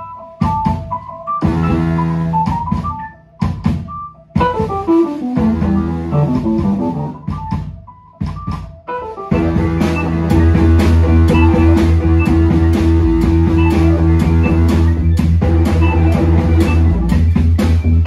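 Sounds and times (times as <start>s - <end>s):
deep keyboard bass: 0.0s - 18.0s
keyboard chords: 0.0s - 18.0s.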